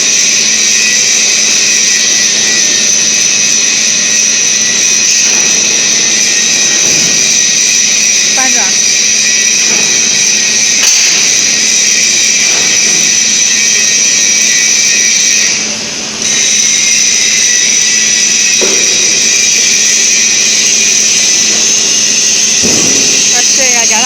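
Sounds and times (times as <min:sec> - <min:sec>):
loud machine whine: 0:00.0 - 0:24.0.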